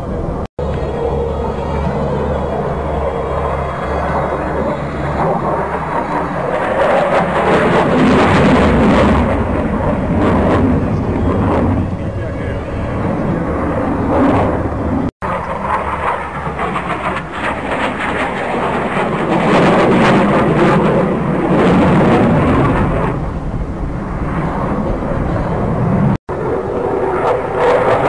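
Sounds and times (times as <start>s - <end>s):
jet aircraft flying overhead: 0.0s - 28.0s.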